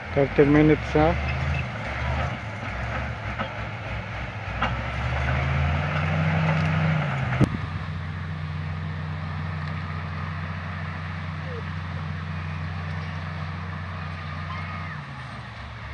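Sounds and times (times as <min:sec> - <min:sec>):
bulldozer diesel engine running: 0:00.0 - 0:15.9.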